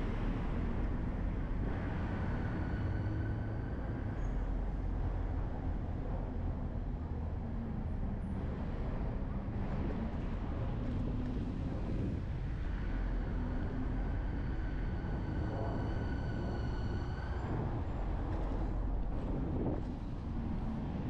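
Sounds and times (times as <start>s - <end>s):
road rumble: 0.0s - 21.0s
wind noise on microphone: 0.0s - 21.0s.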